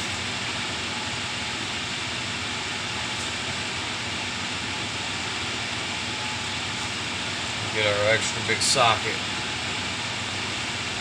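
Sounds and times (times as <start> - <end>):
ventilation fan humming: 0.0 - 11.0.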